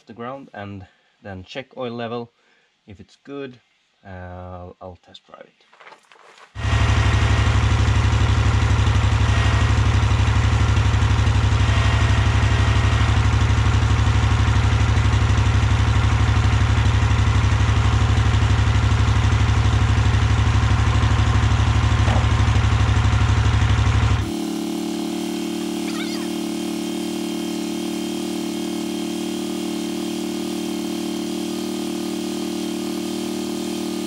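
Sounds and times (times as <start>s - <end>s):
riding mower engine running: 6.6s - 34.0s.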